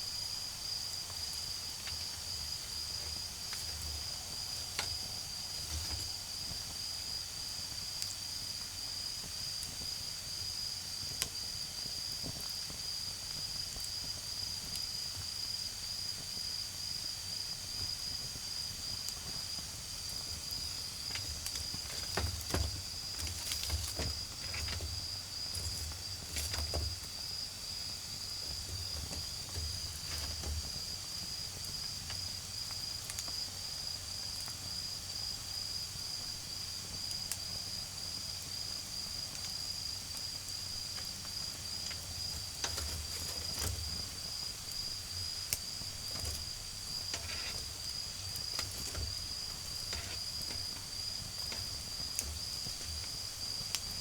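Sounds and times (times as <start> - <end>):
crickets trilling: 0.0 - 54.0
wood fire crackling: 0.0 - 54.0.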